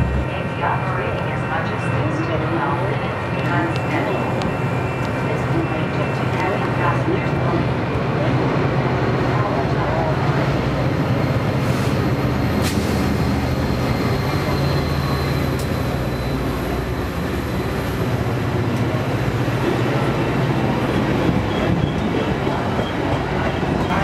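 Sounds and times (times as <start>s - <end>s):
train cars rushing by: 0.0s - 0.6s, 3.9s - 24.0s
diesel locomotive engine hum: 0.0s - 24.0s.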